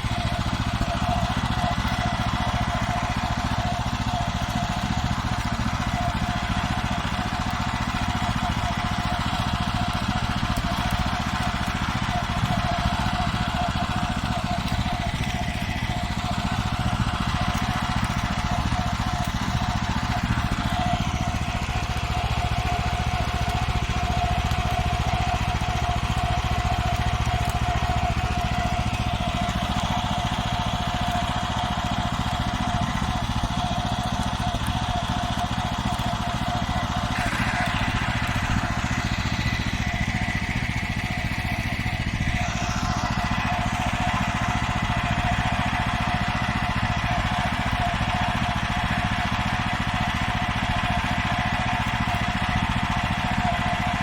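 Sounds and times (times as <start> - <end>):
constant whine: 0.0 - 54.0
walk-behind tractor engine: 0.0 - 54.0.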